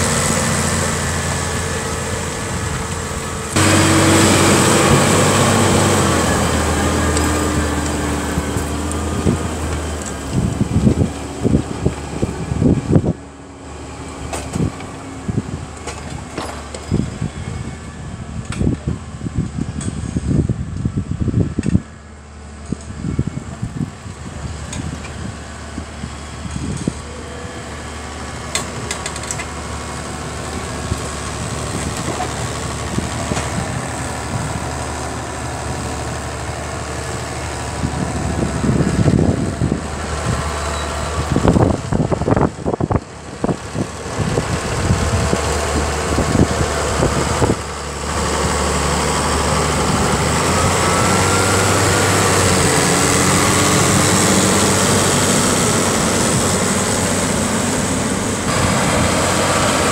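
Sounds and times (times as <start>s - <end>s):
loud low rumbles: 0.0s - 59.9s
tractor diesel engine under load: 0.0s - 59.9s.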